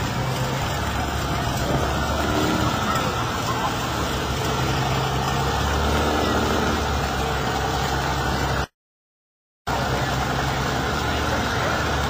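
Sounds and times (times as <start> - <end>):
truck engine running at low revs: 0.0 - 8.7, 9.7 - 12.0.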